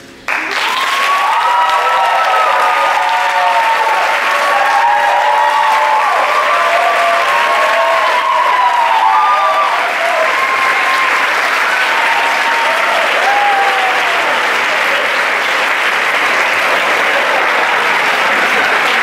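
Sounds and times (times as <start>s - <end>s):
audience applauding: 0.2s - 19.0s.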